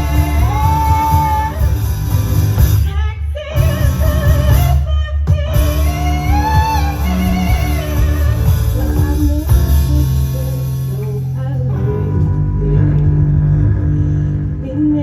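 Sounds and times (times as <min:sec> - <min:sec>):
guitars and bass: 0:00.0 - 0:15.0.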